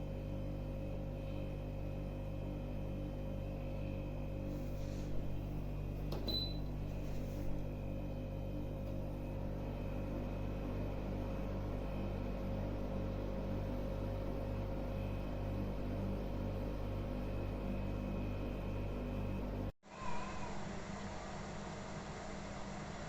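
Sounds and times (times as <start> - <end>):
dehumidifier humming: 0.0 - 23.0.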